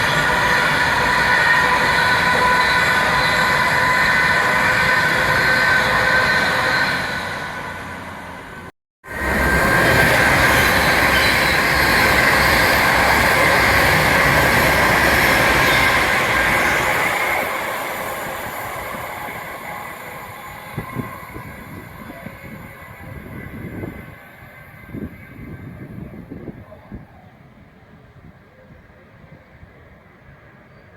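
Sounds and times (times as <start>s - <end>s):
train passing with ringing whine: 0.0s - 30.9s.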